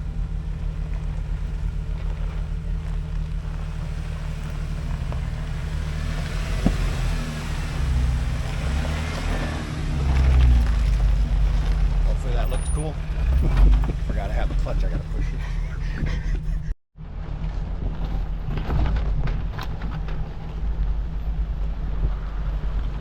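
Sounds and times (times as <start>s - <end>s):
car engine rumble: 0.0s - 23.0s
tyre and road noise: 0.0s - 23.0s.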